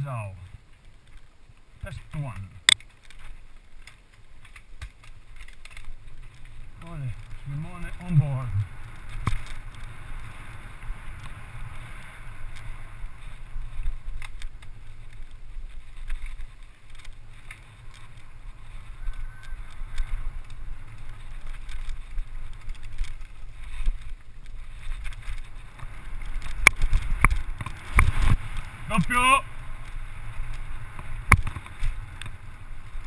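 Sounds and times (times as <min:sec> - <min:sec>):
bike rattling over bumps: 0:00.0 - 0:33.0
wind and tyres rumbling: 0:00.0 - 0:33.0.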